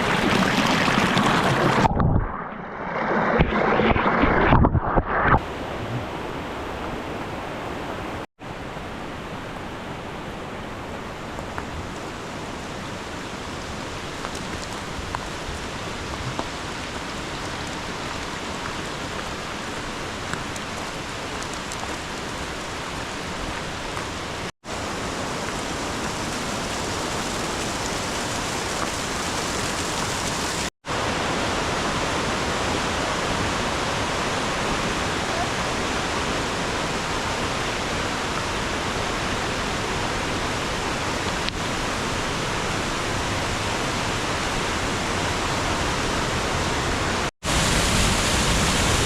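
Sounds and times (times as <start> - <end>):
river rushing: 5.4 - 49.0.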